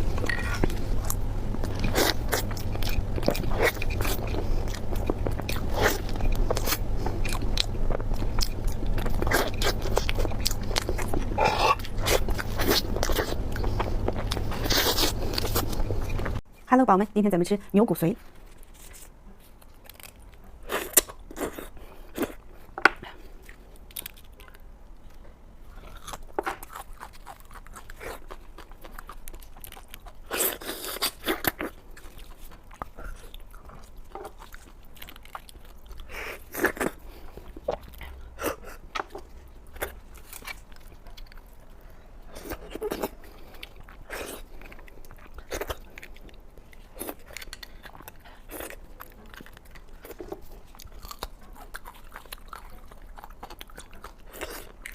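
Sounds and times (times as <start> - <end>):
person chewing and biting: 0.0 - 16.4, 25.7 - 54.9
mouth clicks and crunches: 0.1 - 16.4, 18.7 - 54.9.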